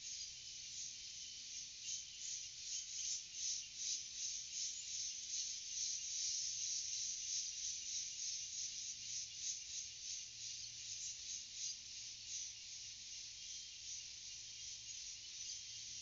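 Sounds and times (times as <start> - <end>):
insect chorus pulsing buzz: 0.0 - 16.0.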